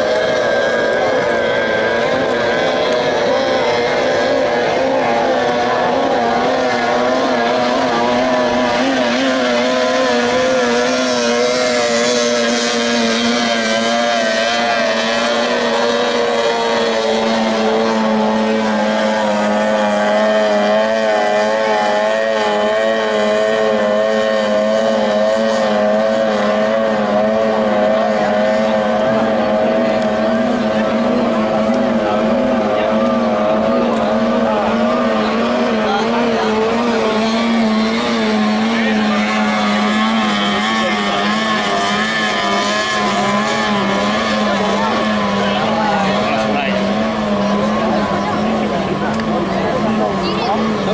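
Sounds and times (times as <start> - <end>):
outboard boat engines at full throttle: 0.0 - 50.9.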